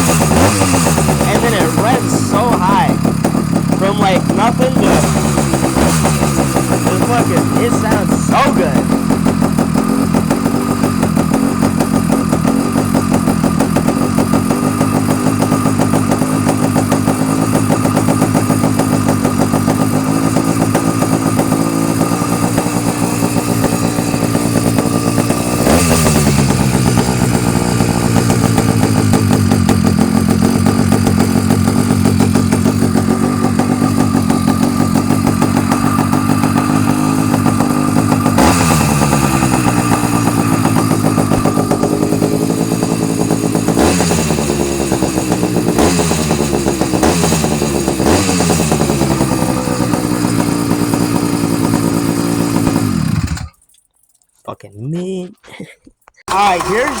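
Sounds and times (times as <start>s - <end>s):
motorbike engine idling and revving: 0.0s - 54.1s, 56.2s - 57.0s.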